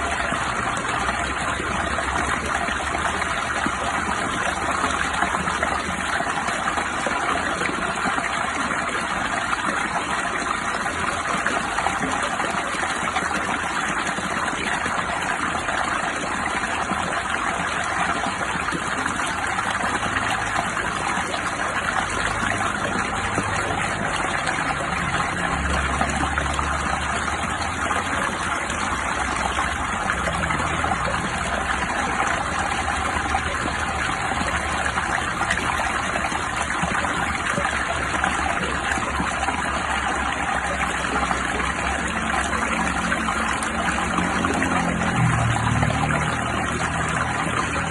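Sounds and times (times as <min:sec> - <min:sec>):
rushing and trickling water: 0:00.0 - 0:47.9.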